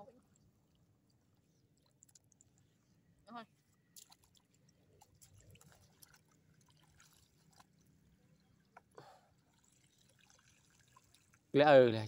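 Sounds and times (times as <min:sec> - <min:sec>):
muddy water splashing and dripping: 0:00.3 - 0:02.7, 0:03.8 - 0:11.5.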